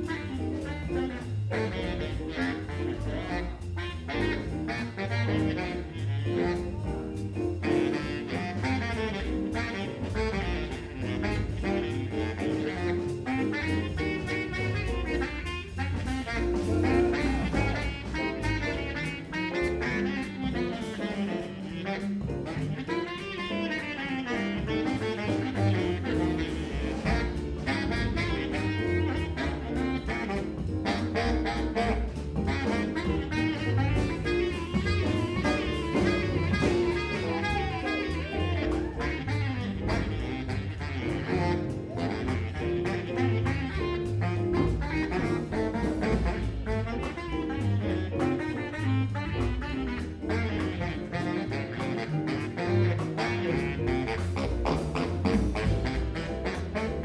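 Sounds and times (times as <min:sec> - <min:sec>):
instrumental jazz music: 0:00.0 - 0:57.0.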